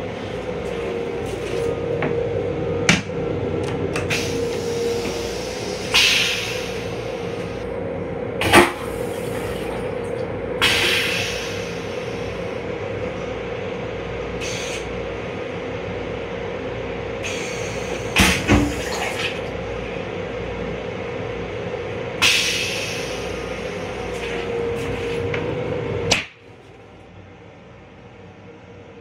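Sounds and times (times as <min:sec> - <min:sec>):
train running noise: 0:00.0 - 0:27.0
toilet pump hum: 0:00.0 - 0:27.1.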